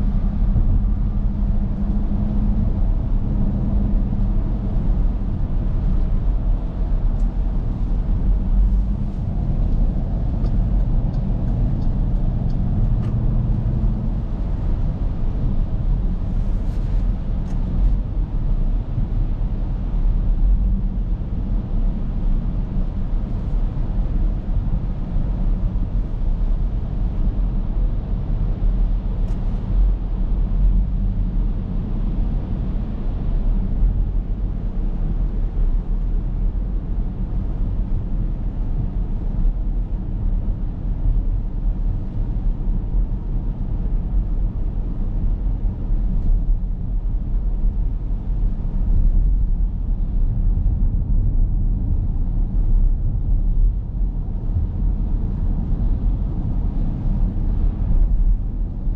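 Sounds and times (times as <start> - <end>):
car engine hum in cabin: 0.0 - 58.9.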